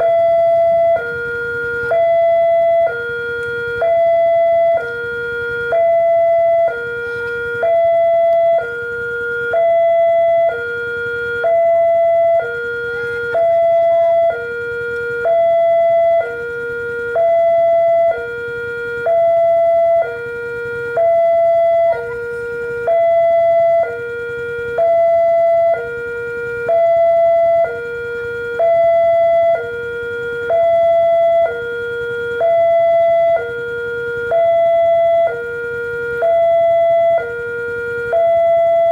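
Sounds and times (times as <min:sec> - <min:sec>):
two-tone crossing warning siren: 0:00.0 - 0:38.9.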